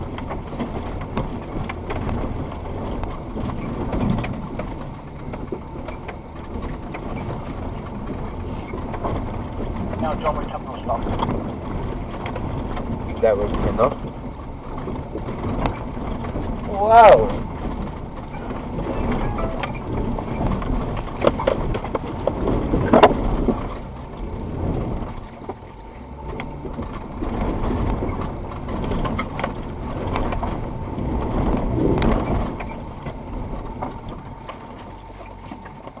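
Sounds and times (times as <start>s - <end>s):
vehicle engine under load: 0.0s - 36.0s.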